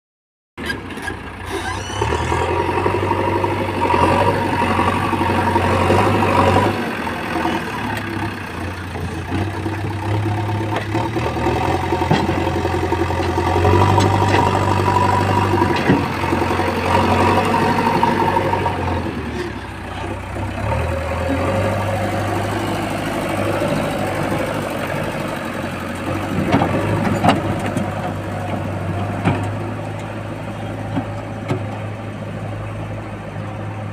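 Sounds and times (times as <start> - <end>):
diesel engine revving under load: 0.6 - 33.9.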